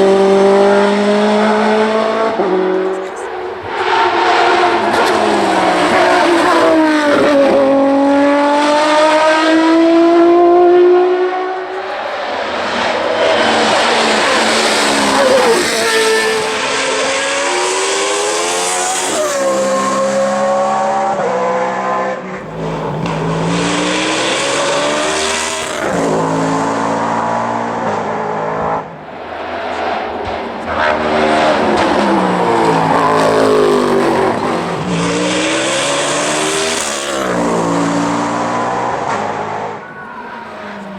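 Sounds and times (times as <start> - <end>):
race car engines revving high: 0.0 - 40.9.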